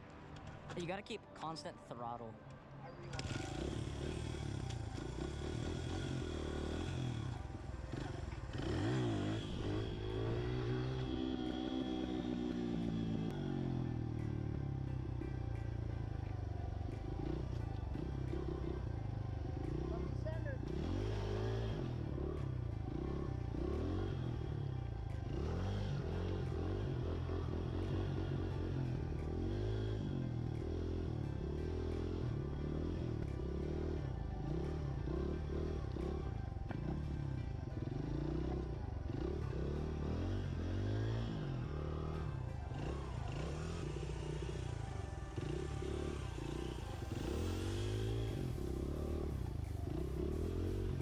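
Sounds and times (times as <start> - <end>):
pit bike engine revving: 3.1 - 51.0.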